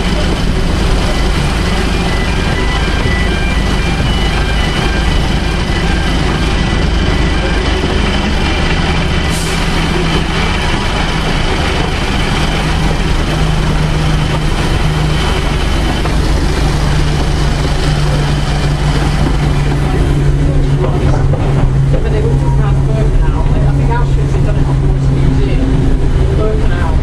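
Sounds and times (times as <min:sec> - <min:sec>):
locomotive engine drone: 0:00.0 - 0:27.0
wheel and rail noise: 0:00.0 - 0:27.0.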